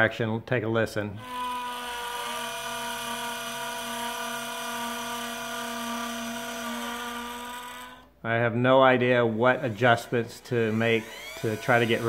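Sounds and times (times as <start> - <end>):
motor whining: 1.2 - 8.1, 9.2 - 12.0.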